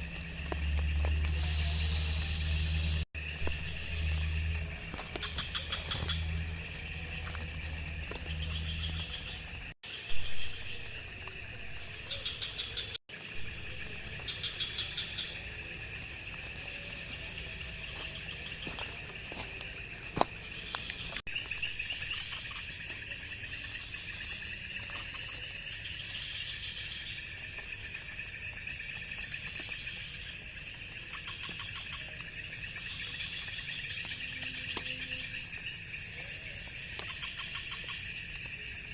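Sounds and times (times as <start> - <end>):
insects and crickets chirping: 0.0 - 38.9.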